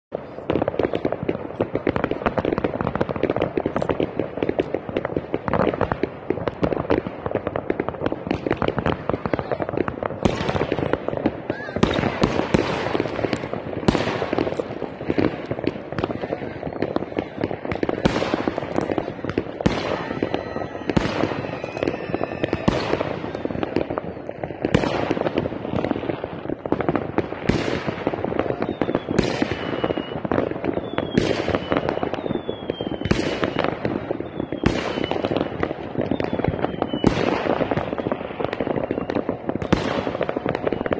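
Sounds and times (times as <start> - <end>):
fireworks bangs: 0.1 - 40.9
fireworks crackling: 0.1 - 40.9
fireworks falling whistles: 0.2 - 40.9.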